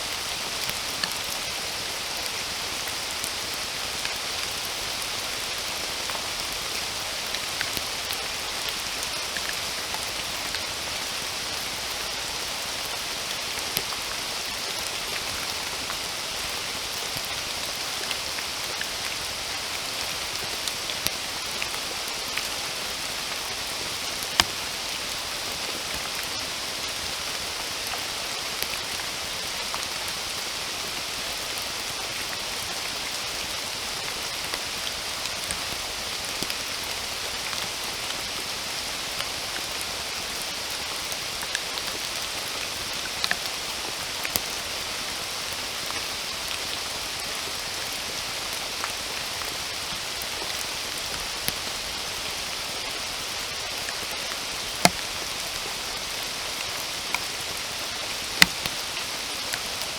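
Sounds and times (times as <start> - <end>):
raindrops ticking on surfaces: 0.0 - 59.9
steady rain falling: 0.0 - 59.9.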